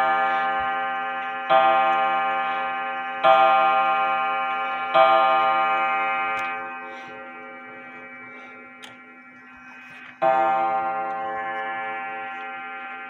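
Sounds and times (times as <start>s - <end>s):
wall clock striking: 0.0s - 9.2s, 10.2s - 13.0s.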